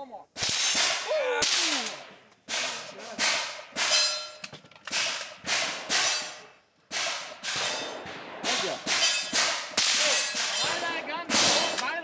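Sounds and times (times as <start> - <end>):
gunshots with short echo: 0.4 - 4.2, 4.9 - 11.8.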